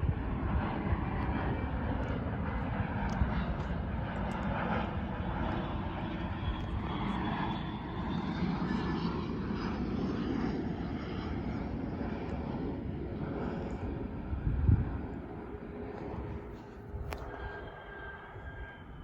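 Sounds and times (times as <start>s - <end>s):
faint high whine: 0.0s - 19.0s
jet engines passing: 0.0s - 19.0s.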